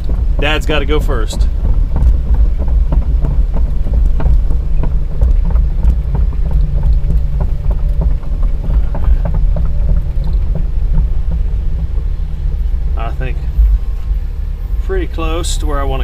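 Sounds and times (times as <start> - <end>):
excavator diesel engine rumbling: 0.0 - 16.0.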